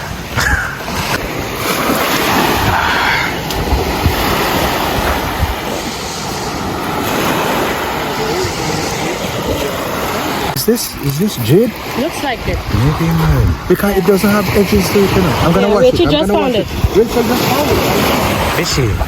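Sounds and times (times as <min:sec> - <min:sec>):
waves washing onto sand: 0:00.0 - 0:19.0
wind buffeting microphone: 0:00.0 - 0:19.0.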